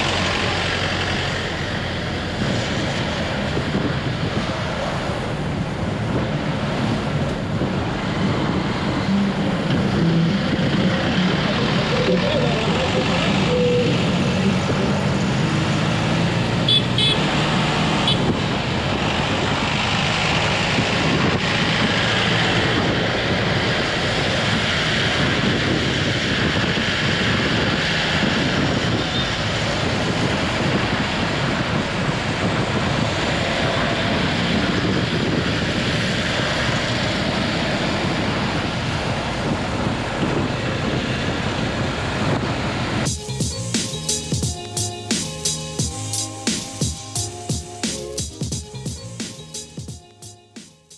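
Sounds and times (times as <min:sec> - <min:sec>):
passing vehicles: 0:00.0 - 0:50.9.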